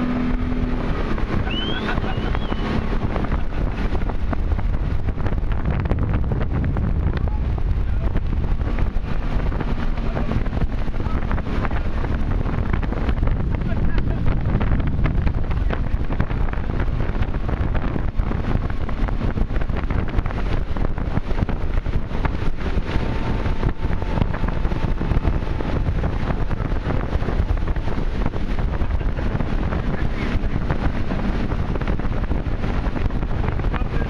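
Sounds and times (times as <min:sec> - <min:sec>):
motorboat engine running: 0:00.0 - 0:34.0
rush of boat wake: 0:00.0 - 0:34.0
wind buffeting microphone: 0:00.0 - 0:34.0.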